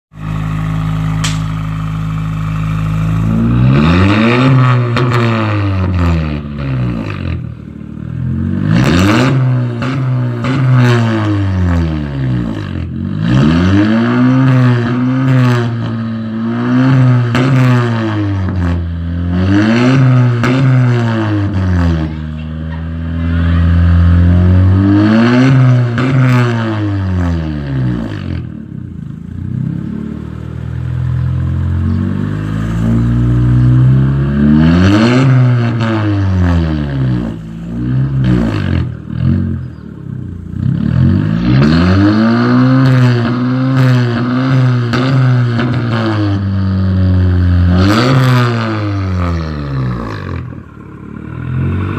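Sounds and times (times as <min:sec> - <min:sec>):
car engine revving: 0:00.2 - 0:51.9.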